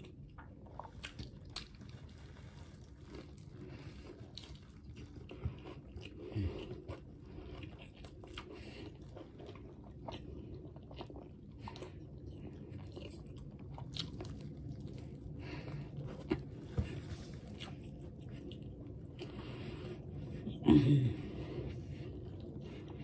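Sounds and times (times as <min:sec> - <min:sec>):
person chewing sandwich: 0:00.0 - 0:23.0.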